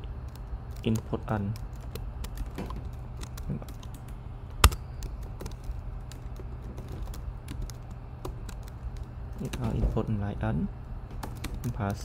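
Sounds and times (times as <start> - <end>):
computer keyboard keys clicking: 0.0 - 9.8, 11.2 - 12.0
steady low hum: 0.0 - 12.0.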